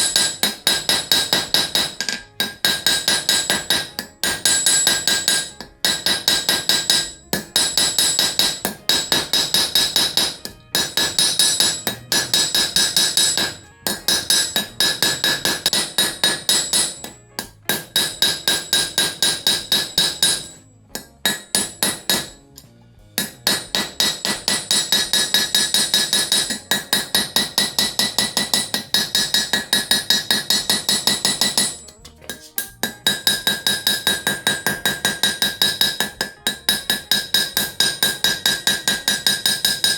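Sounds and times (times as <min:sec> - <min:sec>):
hammer striking steel on anvil: 0:00.0 - 0:39.9.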